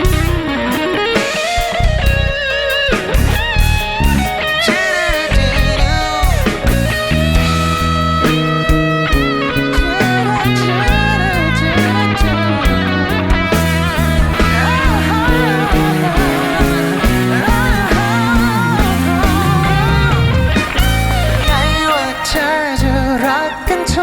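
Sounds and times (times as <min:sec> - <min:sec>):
lead guitar bent notes: 0:00.0 - 0:24.0
rock band instrumental: 0:00.0 - 0:24.0.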